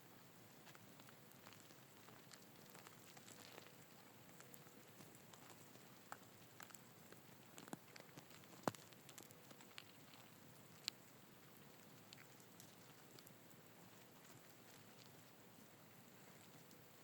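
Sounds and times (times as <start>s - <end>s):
ants crackling and ticking: 0.0s - 17.0s.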